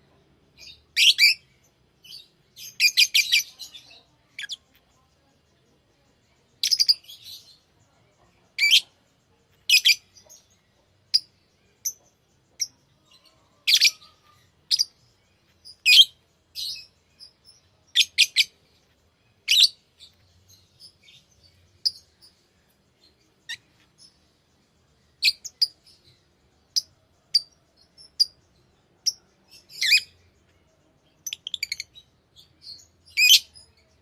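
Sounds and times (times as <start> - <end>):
lovebirds chirping: 0.0 - 34.0.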